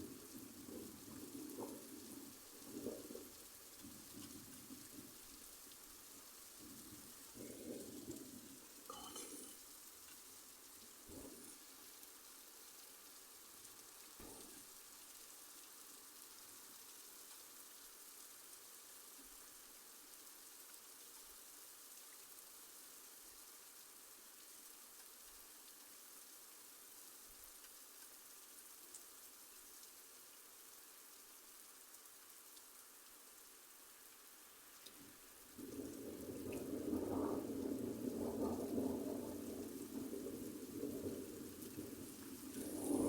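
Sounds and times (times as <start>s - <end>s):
faint steady rain: 0.0s - 43.0s.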